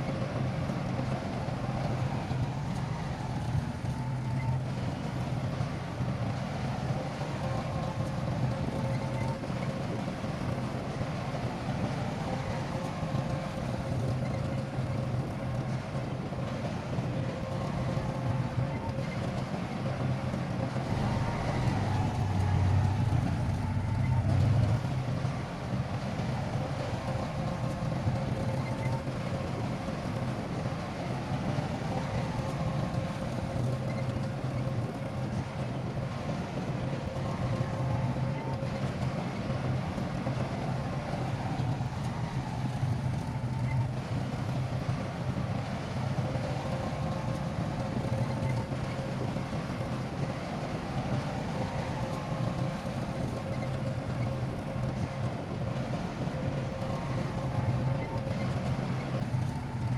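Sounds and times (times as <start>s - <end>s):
construction machinery engine drone: 0.0s - 59.9s
faint steady whine: 0.0s - 59.9s.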